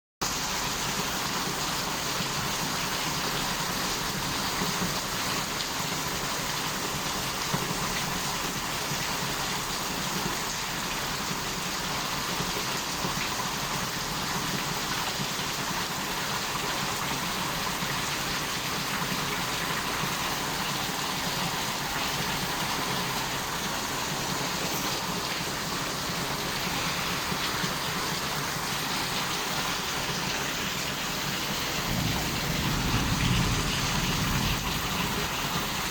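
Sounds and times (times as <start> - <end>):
steady rain hiss: 0.2 - 35.9.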